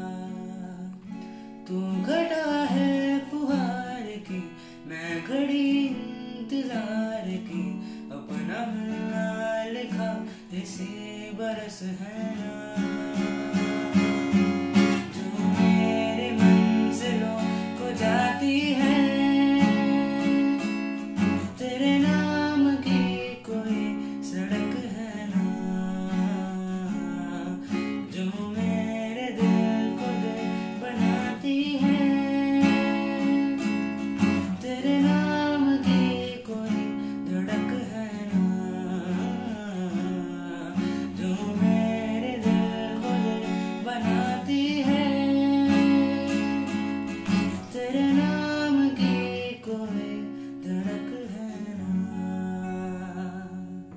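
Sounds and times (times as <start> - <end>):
man singing slow song: 0.0 - 53.9
strummed acoustic guitar: 0.0 - 53.9.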